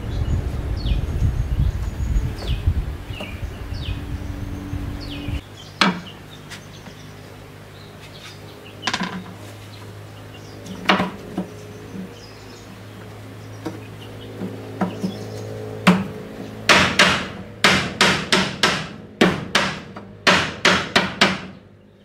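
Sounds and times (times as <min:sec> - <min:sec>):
birds chirping: 0:00.0 - 0:18.8, 0:19.6 - 0:22.0.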